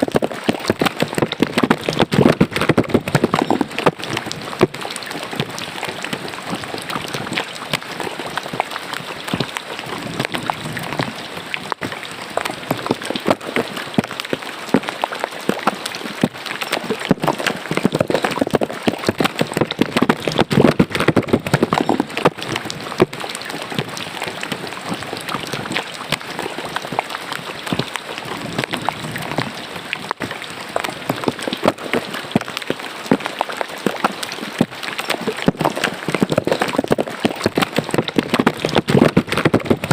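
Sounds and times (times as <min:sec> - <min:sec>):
rain pattering: 0:00.0 - 0:39.9
water splashing into drain: 0:00.0 - 0:39.9.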